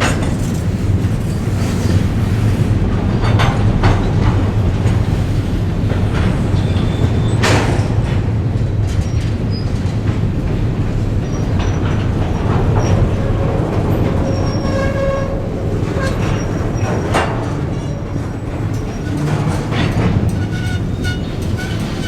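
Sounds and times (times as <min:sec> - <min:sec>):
locomotive engine drone: 0:00.0 - 0:22.0
railcars clanking over track: 0:00.0 - 0:22.0.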